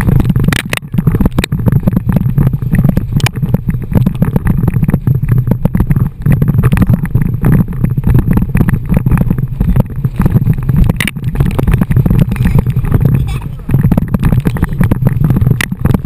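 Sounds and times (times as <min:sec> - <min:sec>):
water rushing: 0:00.0 - 0:16.0
wind buffeting microphone: 0:00.0 - 0:16.0.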